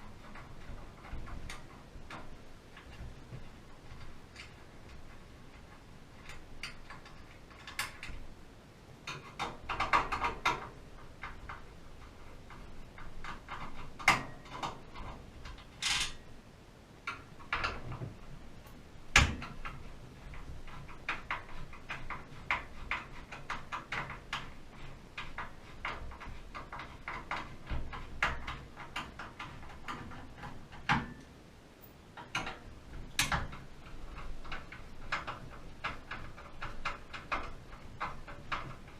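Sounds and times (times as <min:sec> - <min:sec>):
clicks and knocks on metal parts: 0:00.0 - 0:08.4, 0:09.0 - 0:16.3, 0:17.0 - 0:38.9.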